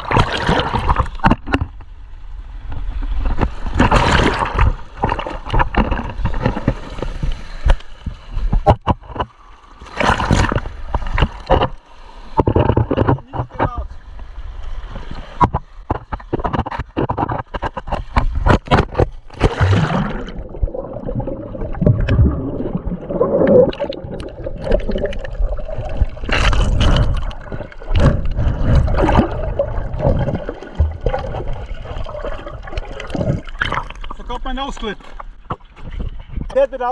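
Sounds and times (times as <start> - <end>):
seawater sloshing and splashing: 0.0 - 1.8, 2.8 - 36.5.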